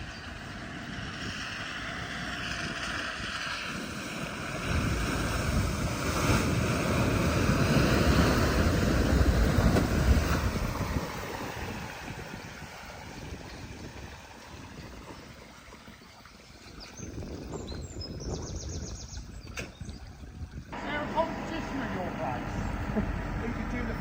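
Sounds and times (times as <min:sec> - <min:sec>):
water rushing and splashing: 0:00.0 - 0:24.0
wind buffeting microphone: 0:00.0 - 0:24.0.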